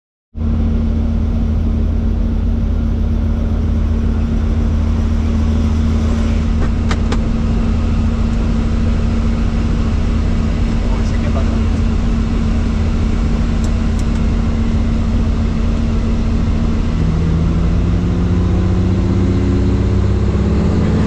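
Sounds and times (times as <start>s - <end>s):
helicopter engine and rotor drone: 0.4s - 21.0s.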